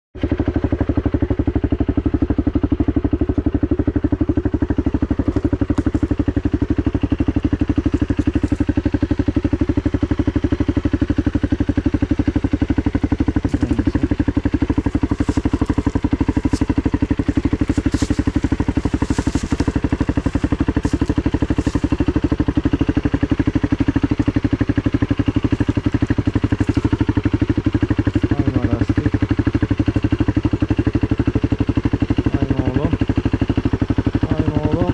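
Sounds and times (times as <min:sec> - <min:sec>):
dirt bike engine idling: 0:00.2 - 0:34.9.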